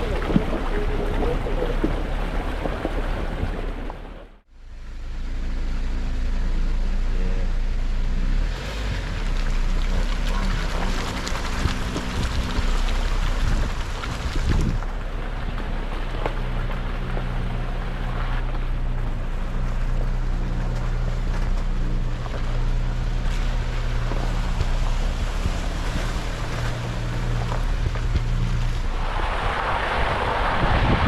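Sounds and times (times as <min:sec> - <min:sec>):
car engine running low revs: 0:00.0 - 0:31.0
rough driving noise: 0:00.0 - 0:31.0.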